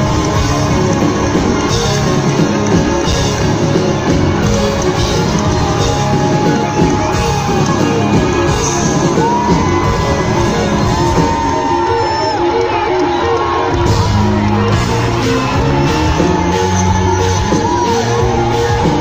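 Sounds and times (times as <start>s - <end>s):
bass guitar: 0.0s - 12.0s, 13.7s - 19.0s
bending lead guitar melody: 0.0s - 19.0s
drums: 0.0s - 19.0s
electric guitars: 0.0s - 19.0s.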